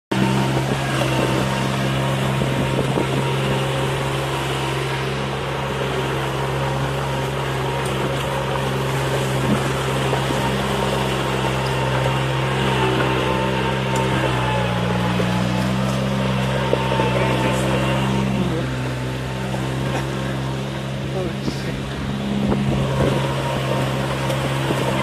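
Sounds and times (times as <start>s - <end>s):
tractor engine running: 0.1s - 25.0s.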